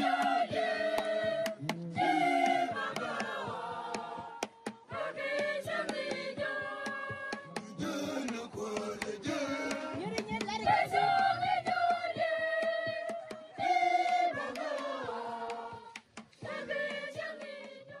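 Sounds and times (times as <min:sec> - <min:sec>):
women singing in unison: 0:00.0 - 0:18.0.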